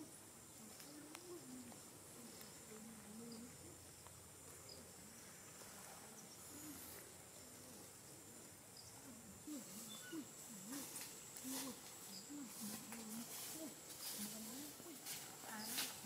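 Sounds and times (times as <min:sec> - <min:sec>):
low wavering calls: 0:00.0 - 0:15.9.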